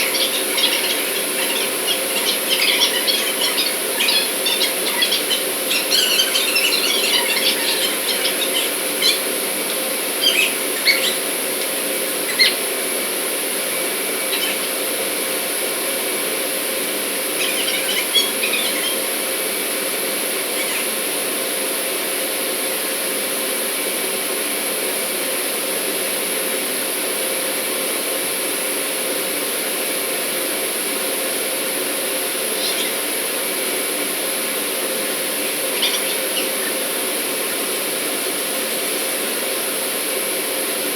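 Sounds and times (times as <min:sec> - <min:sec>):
machinery drone with constant tone: 0:00.0 - 0:40.9.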